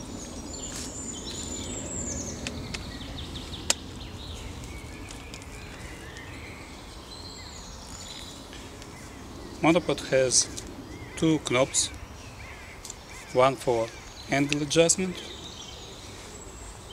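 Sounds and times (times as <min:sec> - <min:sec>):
steady outdoor hum: 0:00.0 - 0:16.9
wild birds singing and chirping: 0:00.0 - 0:16.9.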